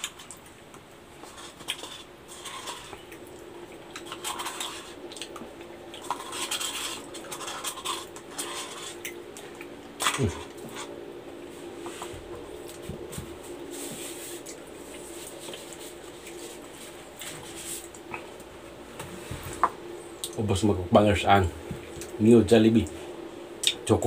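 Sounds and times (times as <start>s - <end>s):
close-up eating sounds: 0.0s - 24.0s.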